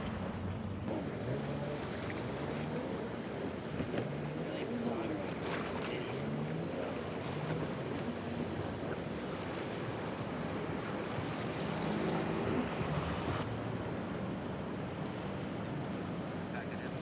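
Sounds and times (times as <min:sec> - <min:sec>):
boat engines running: 0:00.0 - 0:17.0
surf washing: 0:00.0 - 0:17.0.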